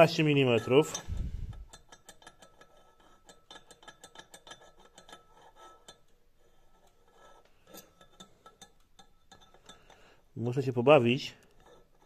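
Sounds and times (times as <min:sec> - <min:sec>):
caliper clicking and scraping on metal: 0:00.0 - 0:12.0.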